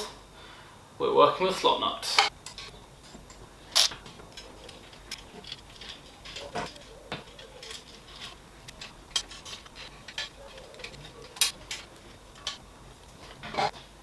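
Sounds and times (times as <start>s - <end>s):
small metallic clicks and taps: 2.2s - 13.7s.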